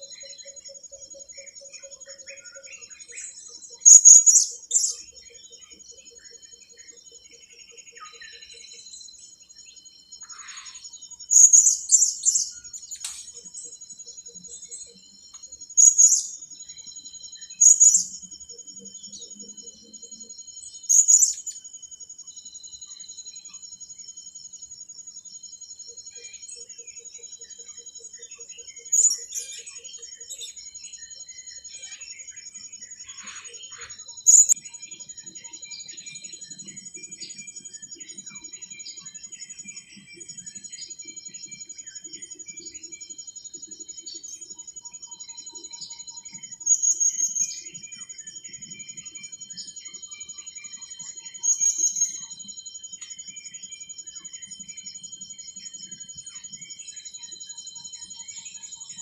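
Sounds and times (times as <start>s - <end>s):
high insect-like trill: 0.0s - 7.0s, 10.0s - 21.7s, 25.3s - 59.0s.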